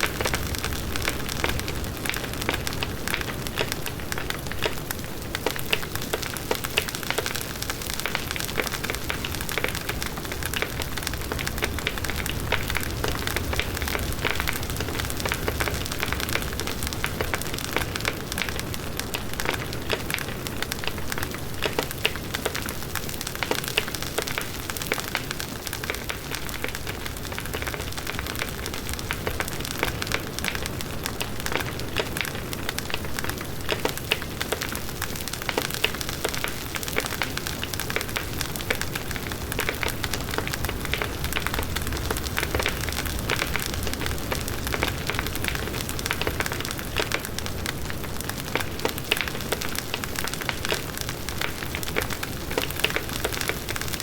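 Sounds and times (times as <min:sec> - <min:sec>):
burning wood crackling: 0:00.0 - 0:54.0.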